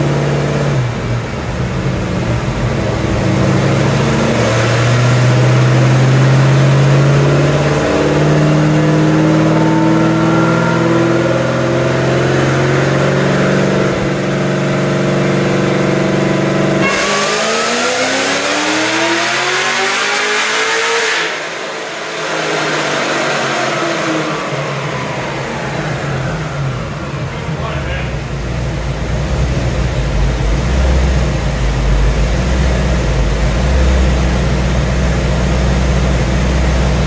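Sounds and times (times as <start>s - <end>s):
race car engine revving: 0.0s - 37.0s.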